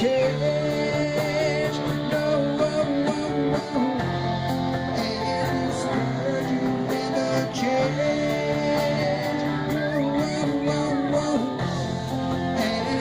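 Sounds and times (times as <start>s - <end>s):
guitar melody with bent notes: 0.0s - 13.0s
live rock band playing: 0.0s - 13.0s.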